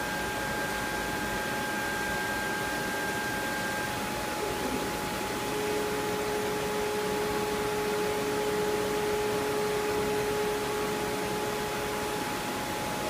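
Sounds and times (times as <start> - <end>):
lower machine whine: 0.0 - 13.0
machining centre hiss and whine: 0.0 - 13.0.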